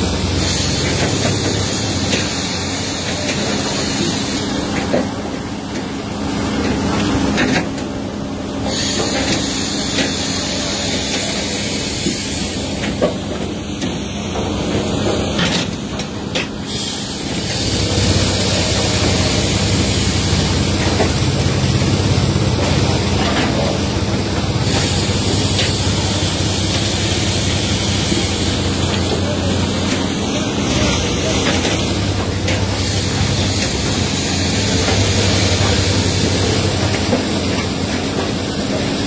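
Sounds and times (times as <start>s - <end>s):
firewood processor running: 0.0s - 39.0s.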